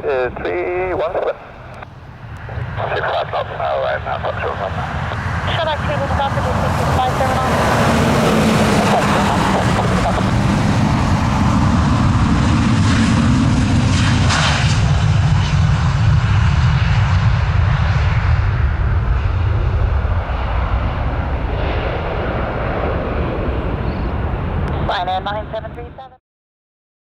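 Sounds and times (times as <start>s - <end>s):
jet airliner engines rumbling: 0.0s - 26.2s.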